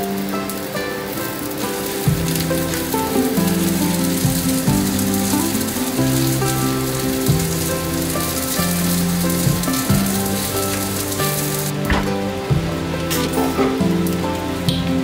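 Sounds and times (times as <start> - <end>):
cabbage sizzling in frying pan: 0.0 - 15.0
soft background music: 0.0 - 15.0.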